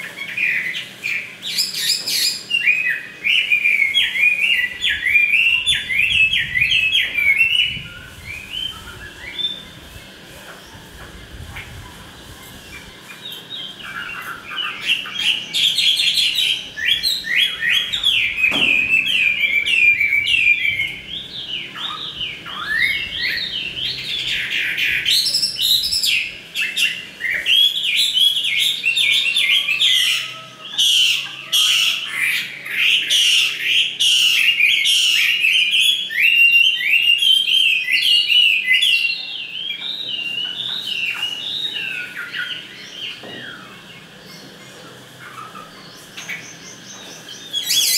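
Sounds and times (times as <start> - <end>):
bird singing whistled notes: 0.2 - 9.8, 12.7 - 43.8, 45.2 - 47.9.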